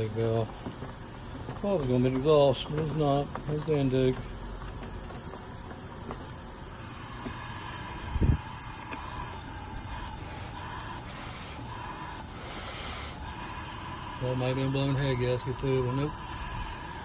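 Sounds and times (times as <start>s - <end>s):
compressed air hissing: 0.0s - 17.0s.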